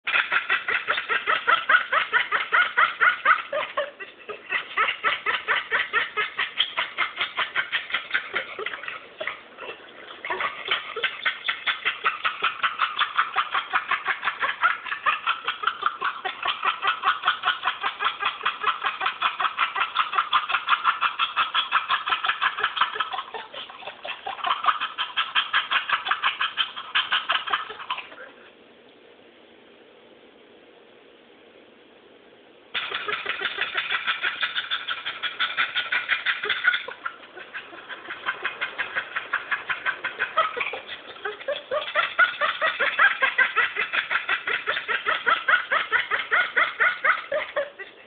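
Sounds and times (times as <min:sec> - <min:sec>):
dog panting rhythmically: 0:00.0 - 0:28.3, 0:32.8 - 0:48.0.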